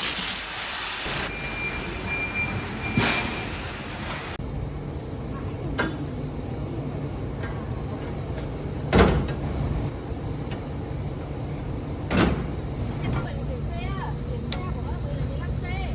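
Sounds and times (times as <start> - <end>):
factory machinery hum: 0.0 - 15.9.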